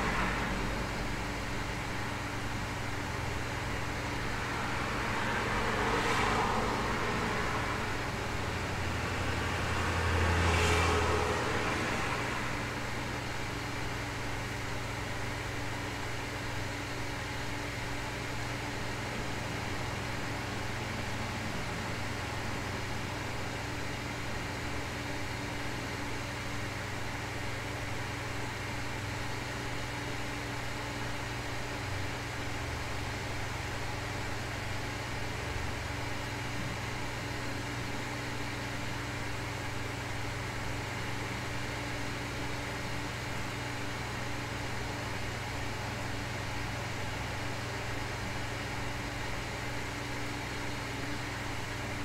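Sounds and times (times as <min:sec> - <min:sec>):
constant low hum: 0:00.0 - 0:52.0.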